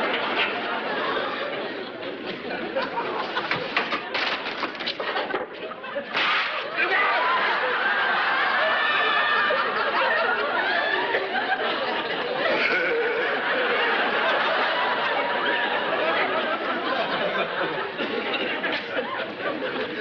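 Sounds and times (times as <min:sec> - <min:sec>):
laugh track: 0:00.0 - 0:20.0.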